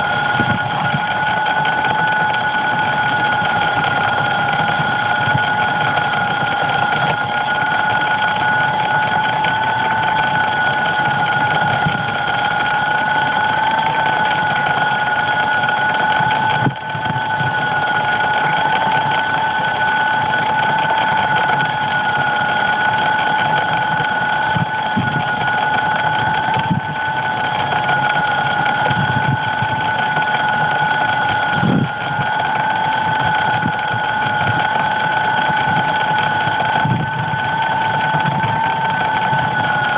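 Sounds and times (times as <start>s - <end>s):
electric motor whine: 0.0s - 39.9s.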